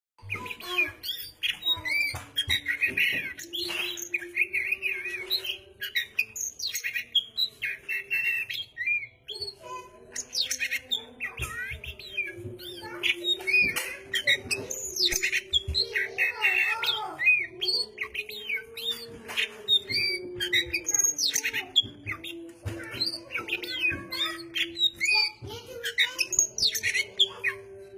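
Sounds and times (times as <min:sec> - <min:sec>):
magpie-robin singing: 0:00.2 - 0:27.9.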